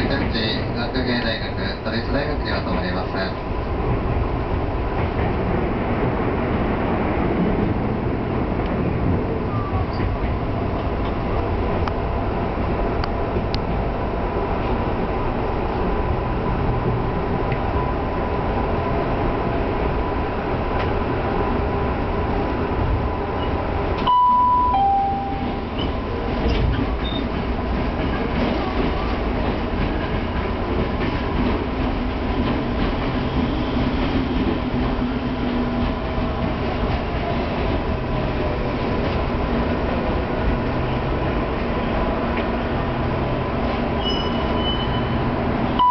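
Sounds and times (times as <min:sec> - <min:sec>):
train wheels rumbling on rails: 0:00.0 - 0:45.8.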